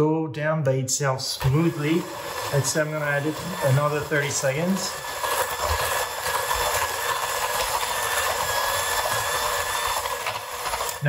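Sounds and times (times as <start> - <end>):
electric hand mixer whining: 1.2 - 11.0.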